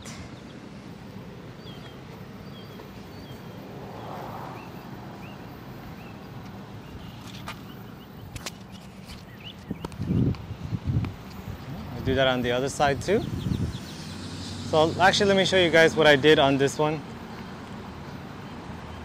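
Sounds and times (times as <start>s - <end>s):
steady low hum: 0.0s - 18.7s.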